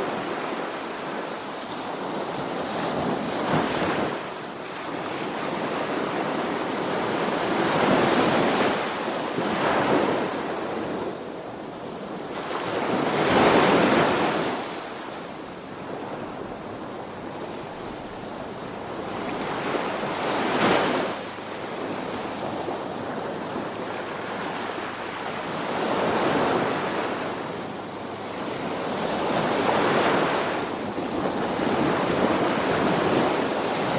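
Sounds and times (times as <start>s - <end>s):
sea waves breaking: 0.0s - 33.9s.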